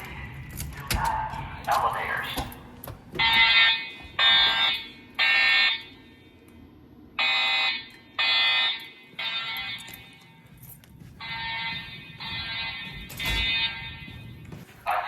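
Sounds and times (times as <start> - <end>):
evacuation alarm tones: 0.0 - 6.4, 7.1 - 15.0.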